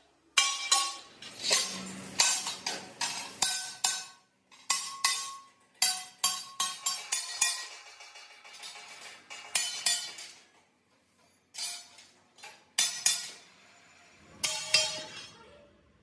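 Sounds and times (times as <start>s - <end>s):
steel parts clanking: 0.4s - 10.6s, 11.2s - 15.4s.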